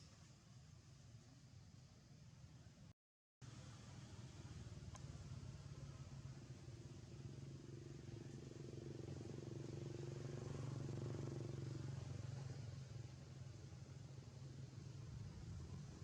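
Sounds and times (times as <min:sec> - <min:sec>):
faint vehicle engine hum: 0:00.0 - 0:16.0.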